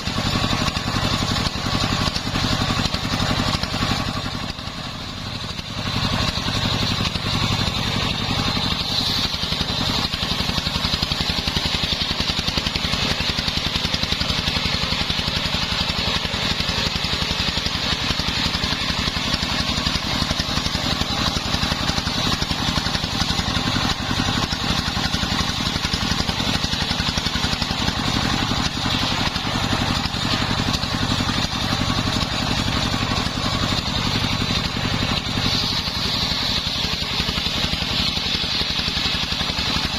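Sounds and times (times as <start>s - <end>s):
sawmill engine firing: 0.0s - 39.9s.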